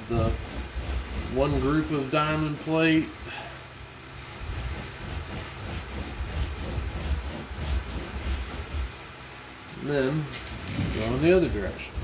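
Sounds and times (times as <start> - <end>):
carpet scrubbing on metal: 0.0 - 12.0.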